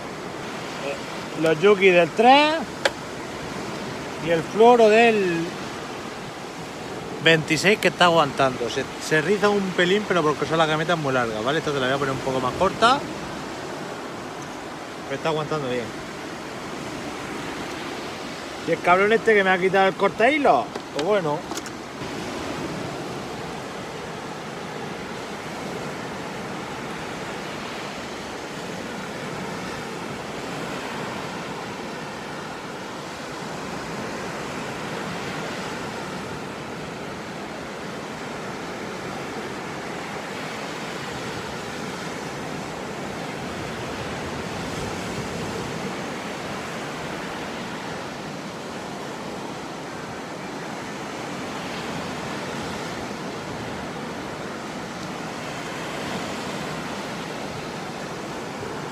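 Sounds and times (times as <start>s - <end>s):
waves breaking on a beach: 0.0s - 58.9s.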